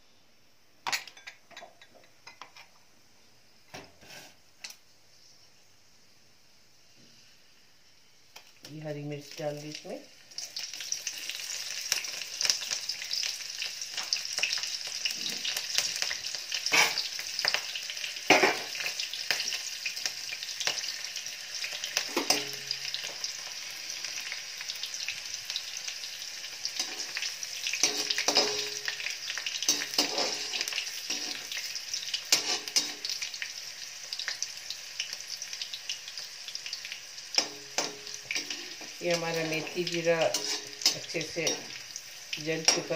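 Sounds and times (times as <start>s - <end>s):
hot oil sizzling in a pan: 3.3s - 42.9s.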